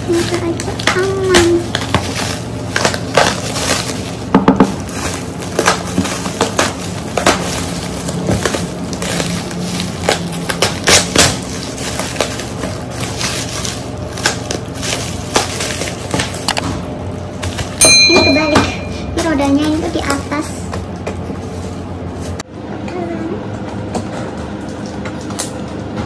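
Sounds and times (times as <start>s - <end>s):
bubble wrap and cardboard crinkling: 0.0s - 22.5s.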